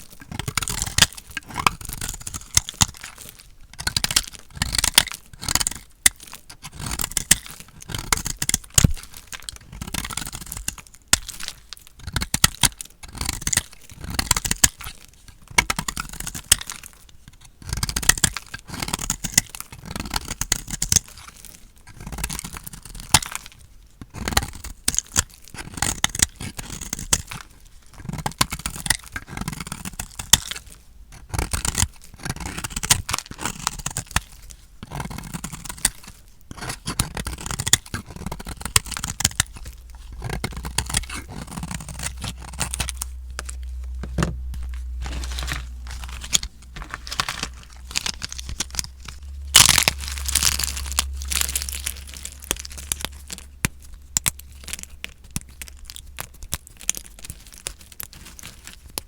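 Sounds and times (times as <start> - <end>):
blade cutting dry soap: 0.0 - 59.0.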